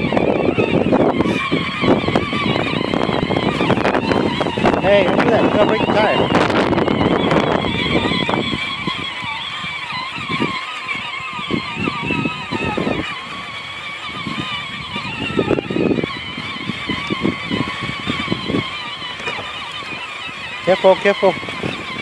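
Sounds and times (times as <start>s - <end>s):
toy ride-on mower whine: 0.0s - 22.0s.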